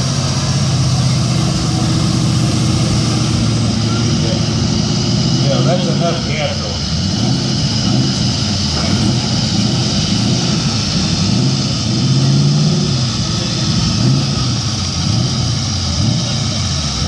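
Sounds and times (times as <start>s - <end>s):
pickup truck engine under load: 0.0s - 17.0s.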